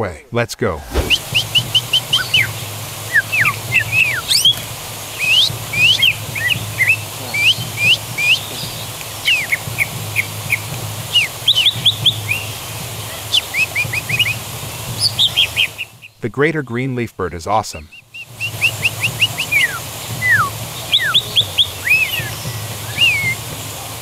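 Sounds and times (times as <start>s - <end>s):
bird singing whistled notes: 0.8s - 12.6s, 13.2s - 16.2s, 17.8s - 23.5s.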